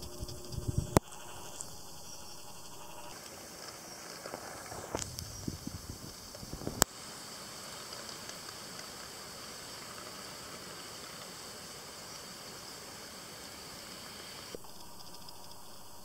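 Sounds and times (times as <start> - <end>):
steady even hiss: 0.0 - 16.0.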